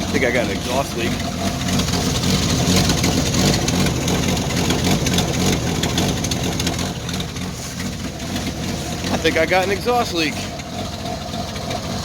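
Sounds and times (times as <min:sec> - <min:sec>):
car engine idling roughly: 0:00.0 - 0:12.0.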